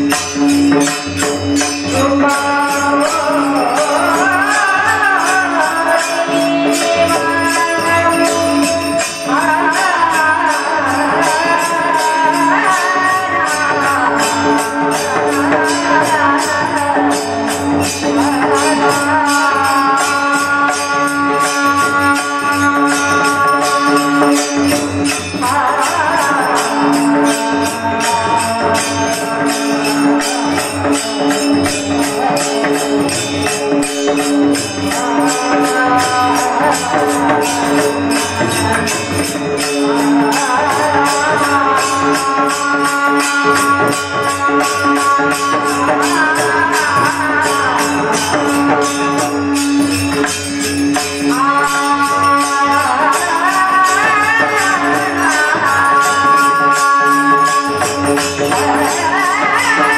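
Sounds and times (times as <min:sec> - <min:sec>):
fast percussion beat: 0:00.0 - 0:59.9
wavering devotional melody: 0:00.0 - 0:59.9.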